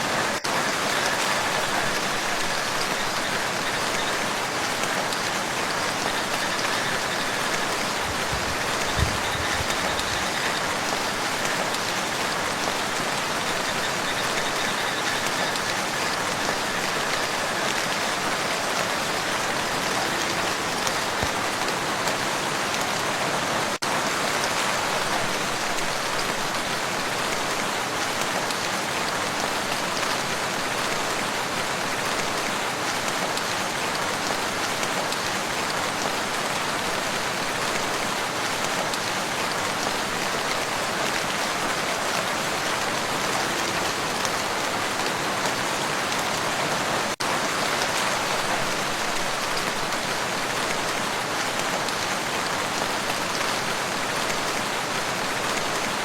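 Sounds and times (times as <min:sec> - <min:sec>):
rain falling on water: 0:00.0 - 0:56.0.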